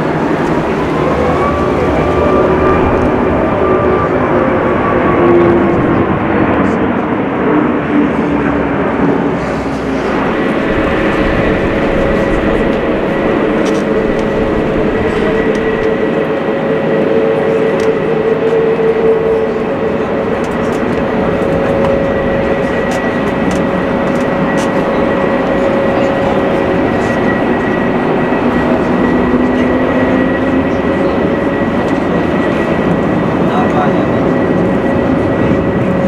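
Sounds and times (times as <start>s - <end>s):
jet engines roaring overhead: 0.0s - 36.0s.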